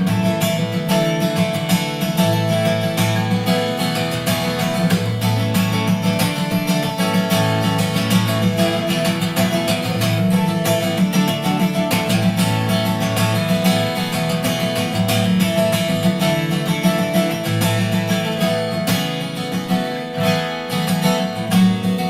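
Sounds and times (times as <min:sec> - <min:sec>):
strummed acoustic guitar music: 0:00.0 - 0:22.0.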